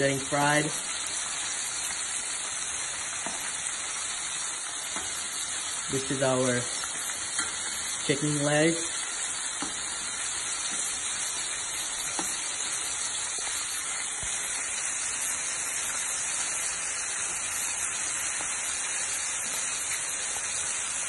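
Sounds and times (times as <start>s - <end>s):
chicken deep-frying in oil: 0.0s - 21.0s.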